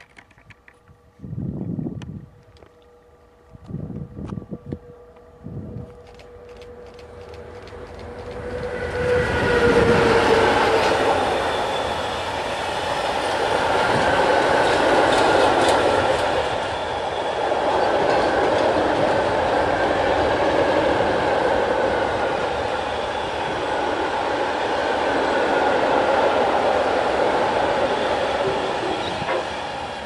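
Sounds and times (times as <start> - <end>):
electric locomotive whine: 0.0 - 30.0
train wheels rumbling and clattering: 5.7 - 30.0.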